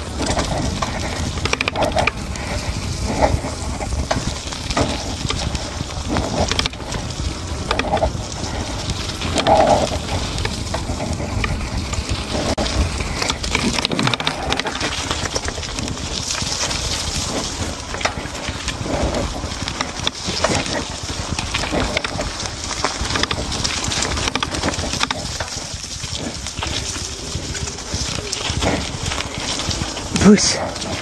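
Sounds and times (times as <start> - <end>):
bike knocks and rattles: 0.0 - 30.1
wind buffeting microphone: 0.0 - 31.0.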